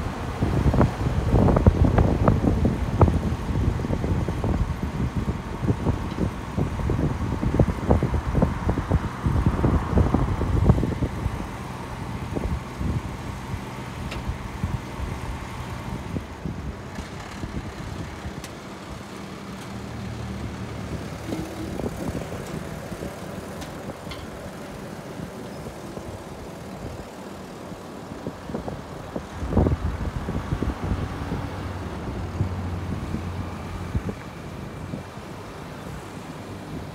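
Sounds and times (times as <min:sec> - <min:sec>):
truck engine running: 0:00.0 - 0:36.9.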